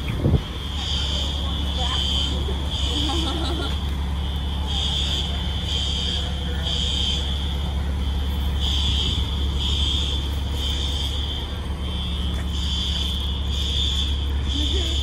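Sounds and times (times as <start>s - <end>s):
fire alarm beeping: 0.0s - 15.0s.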